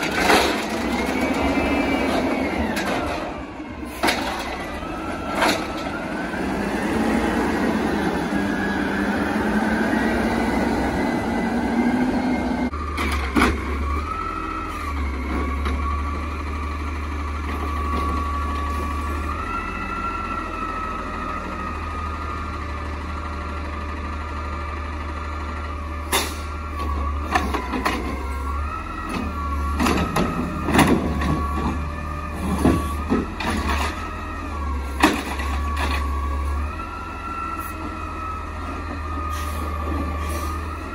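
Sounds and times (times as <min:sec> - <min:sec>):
garbage truck engine running: 0:00.0 - 0:40.9.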